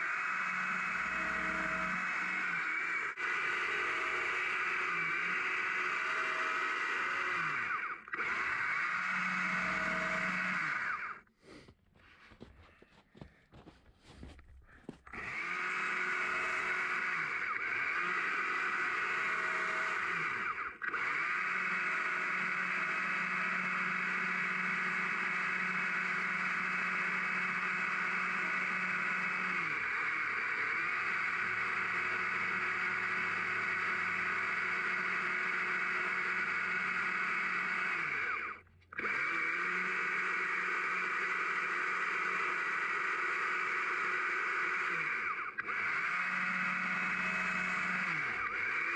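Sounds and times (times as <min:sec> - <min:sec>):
battery chainsaw whining: 0:00.0 - 0:11.3, 0:15.0 - 0:48.9.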